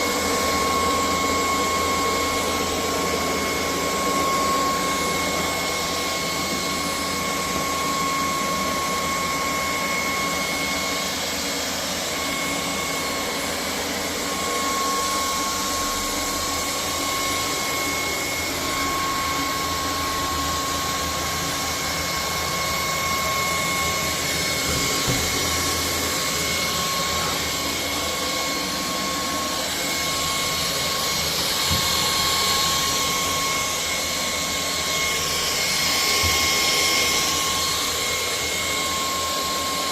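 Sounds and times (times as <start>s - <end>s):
stick vacuum cleaner running: 0.0s - 39.9s.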